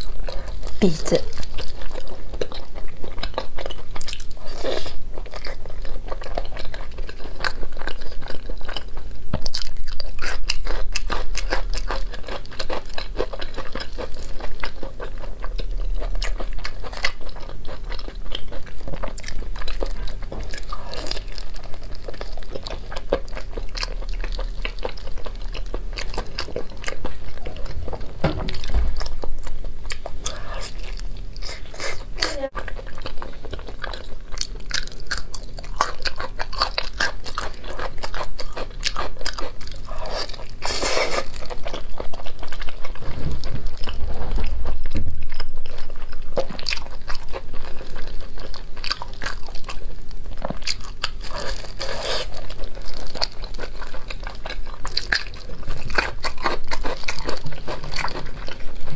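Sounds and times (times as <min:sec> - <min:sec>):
person chewing with wet crunches: 0:00.0 - 0:58.9.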